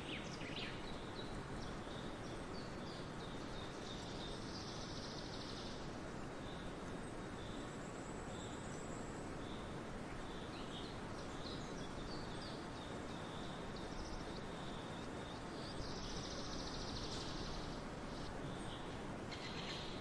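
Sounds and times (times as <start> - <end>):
background hiss: 0.0 - 20.0
small birds chirping: 0.0 - 20.0.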